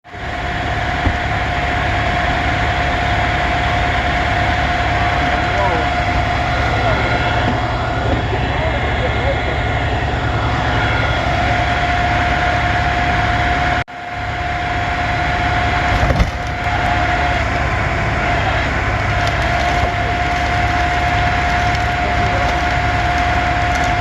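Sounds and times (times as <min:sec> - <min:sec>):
diesel engines rumbling: 0:00.0 - 0:24.0
high whine: 0:00.0 - 0:24.0.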